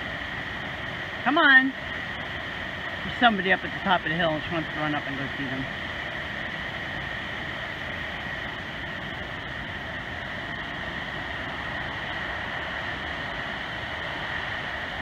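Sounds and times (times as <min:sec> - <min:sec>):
water rushing from waterfall: 0:00.0 - 0:15.0.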